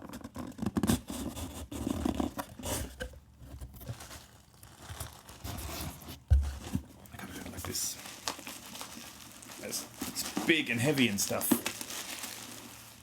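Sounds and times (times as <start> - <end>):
cardboard box being opened: 0.0 - 13.0.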